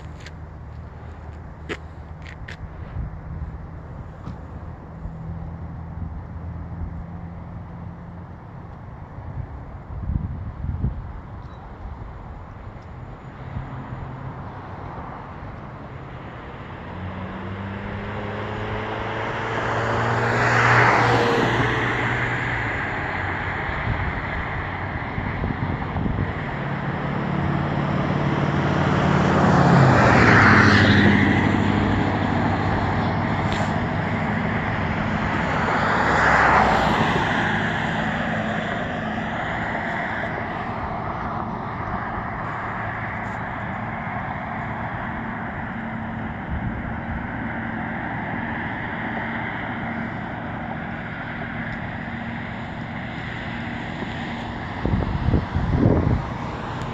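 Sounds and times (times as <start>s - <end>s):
vehicles passing by: 0.0s - 56.9s.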